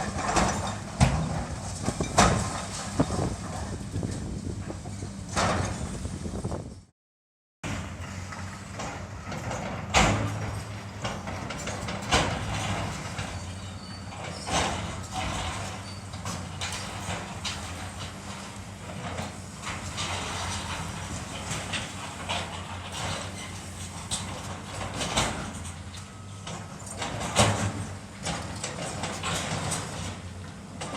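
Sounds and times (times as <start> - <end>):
debris scraping and crashing: 0.0 - 4.4, 7.7 - 30.9
demolition machinery engine hum: 0.0 - 6.9, 7.6 - 30.9.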